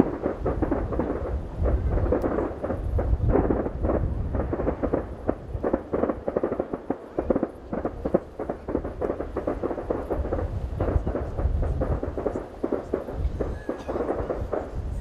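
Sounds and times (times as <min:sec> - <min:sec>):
fireworks bangs and crackling: 0:00.0 - 0:15.0
steady low rumble: 0:00.0 - 0:15.0.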